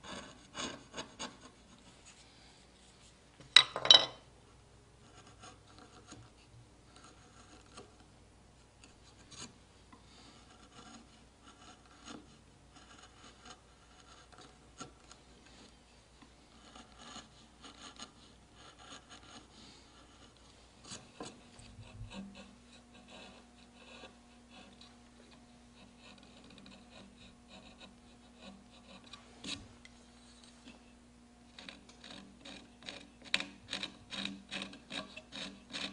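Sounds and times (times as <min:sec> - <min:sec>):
carving gouge scraping wood: 0:00.0 - 0:02.2, 0:05.0 - 0:08.0, 0:08.6 - 0:29.6, 0:31.5 - 0:35.9.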